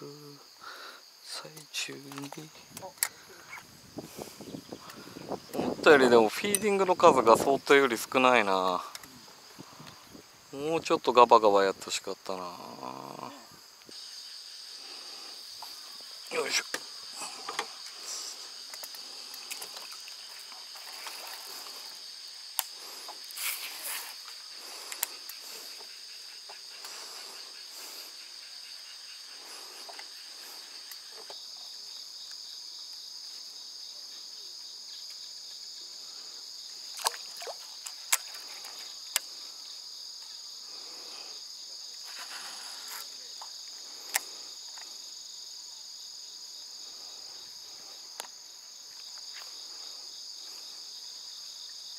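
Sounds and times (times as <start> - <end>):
insects buzzing: 0.0 - 51.9.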